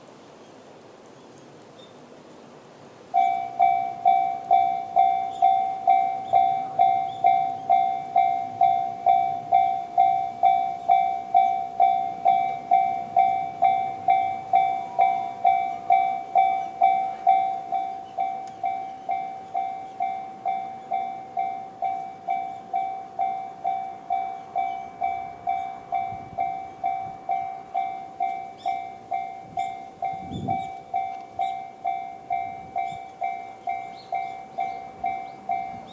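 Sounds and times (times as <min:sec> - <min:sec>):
level crossing alarm bell: 0:03.2 - 0:35.9.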